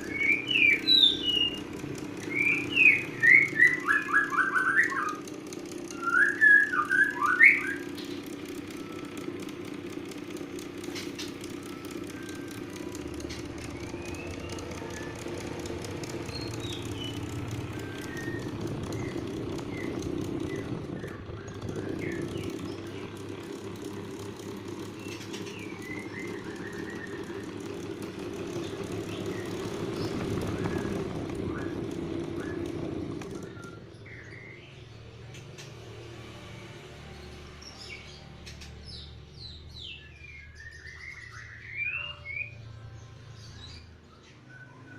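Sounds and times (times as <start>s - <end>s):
fan squeaking: 0.0s - 39.2s
electric fan humming: 0.0s - 44.1s.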